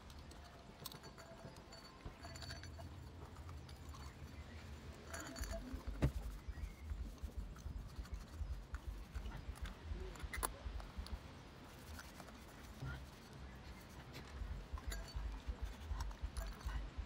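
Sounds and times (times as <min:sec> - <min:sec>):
rag rubbing on brass: 0:00.0 - 0:10.4, 0:11.7 - 0:17.0.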